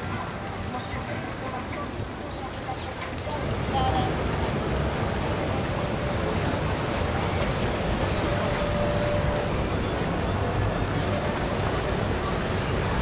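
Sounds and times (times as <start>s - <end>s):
boat engines: 0.0s - 13.0s
water: 0.0s - 13.0s.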